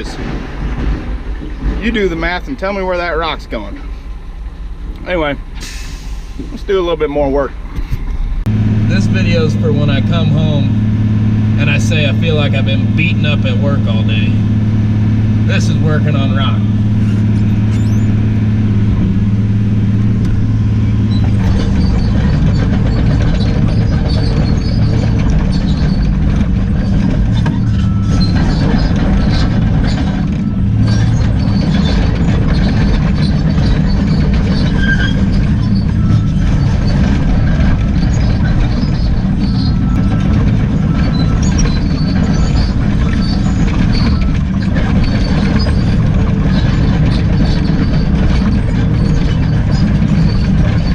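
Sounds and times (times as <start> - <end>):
excavator diesel engine: 0.0 - 50.9.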